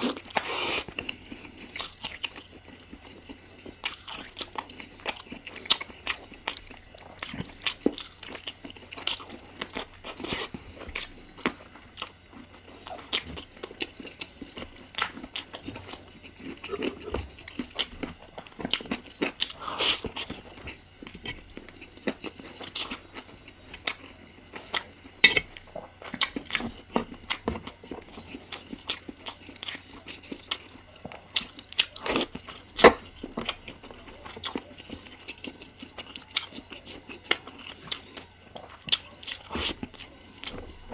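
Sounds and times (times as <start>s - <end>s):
chewing and biting food: 0.0s - 40.9s.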